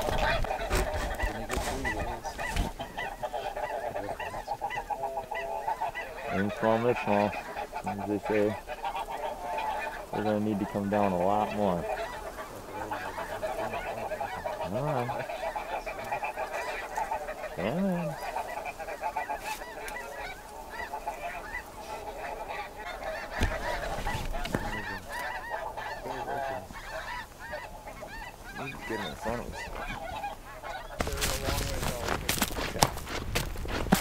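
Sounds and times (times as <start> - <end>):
flock of geese honking: 0.0 - 34.0.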